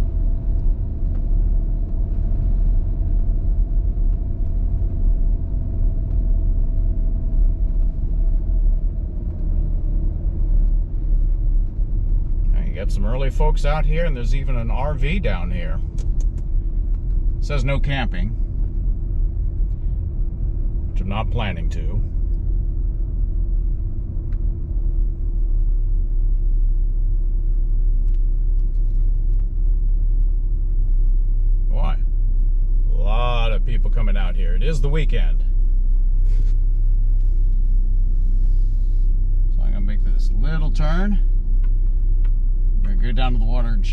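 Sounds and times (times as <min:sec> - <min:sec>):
car engine and road noise: 0:00.0 - 0:43.9
constant hum: 0:00.0 - 0:43.9.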